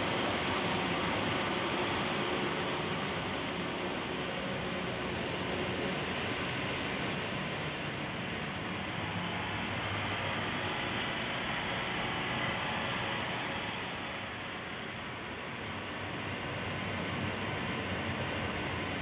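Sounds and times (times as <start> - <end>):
model train motor hum and rolling: 0.0 - 19.0.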